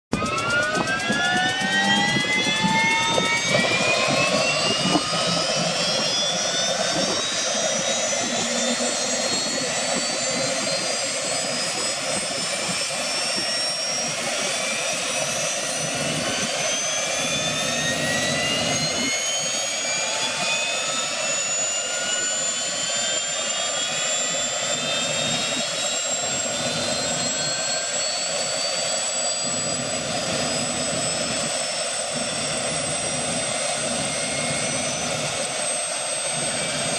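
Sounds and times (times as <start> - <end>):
turbine engine whine rising: 0.1 - 36.9.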